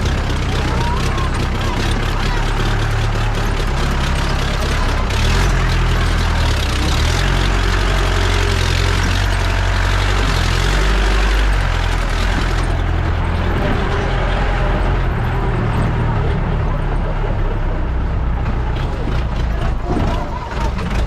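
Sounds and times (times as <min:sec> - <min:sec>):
rattling road noise: 0:00.0 - 0:21.0
vehicle engine running: 0:00.0 - 0:21.0.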